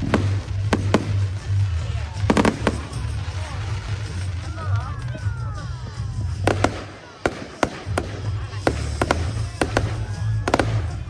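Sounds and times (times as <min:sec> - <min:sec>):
fireworks bangs: 0:00.0 - 0:04.8, 0:06.3 - 0:11.0.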